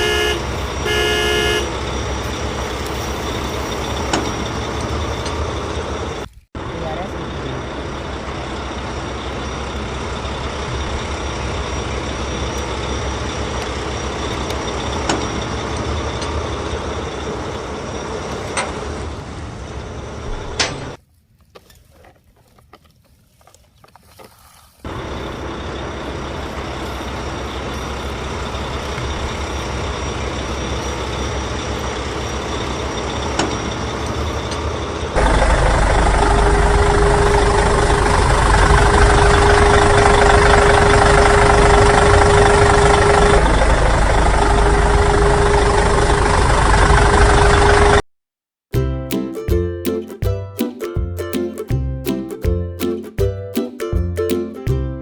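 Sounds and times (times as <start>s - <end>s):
vehicle engine noise: 0.0s - 21.0s, 24.8s - 48.1s.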